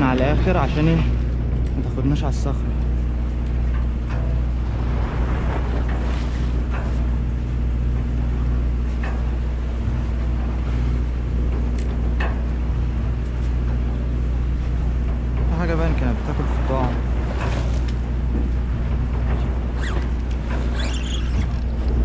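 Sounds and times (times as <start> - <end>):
boat engine droning: 0.0 - 22.0
sea: 0.0 - 22.0
wind: 0.0 - 22.0.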